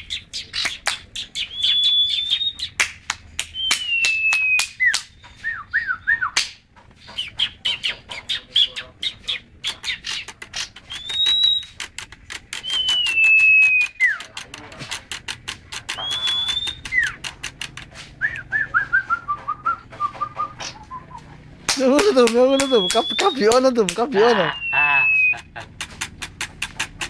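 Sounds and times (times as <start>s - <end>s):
songbird singing rapidly: 0.0s - 6.4s, 7.0s - 27.0s.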